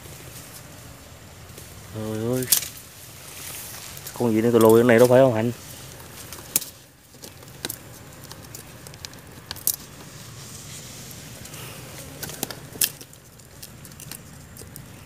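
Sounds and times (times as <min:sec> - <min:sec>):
leaf litter rustling: 0:00.0 - 0:15.0.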